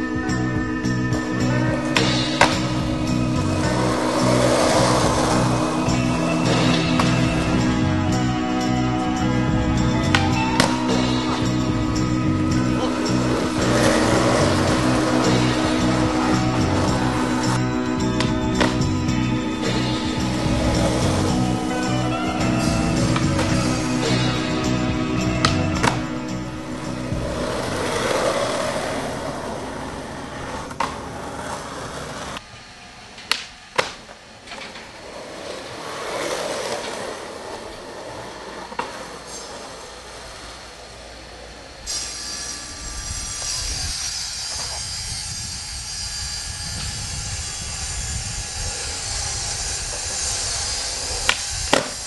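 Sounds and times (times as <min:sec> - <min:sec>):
skateboard wheels rolling on asphalt: 0:00.0 - 0:52.0.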